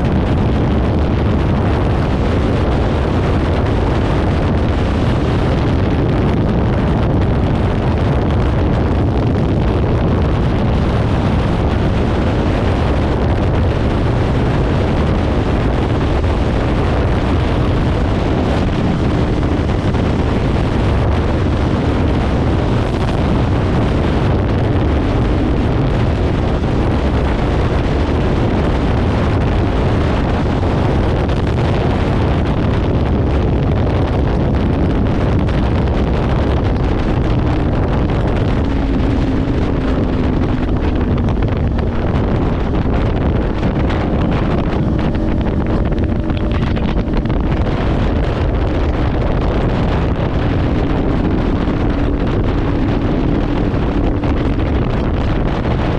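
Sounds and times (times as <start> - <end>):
motorcycle engine riding: 0.0 - 55.9
wind noise on microphone: 0.0 - 55.9.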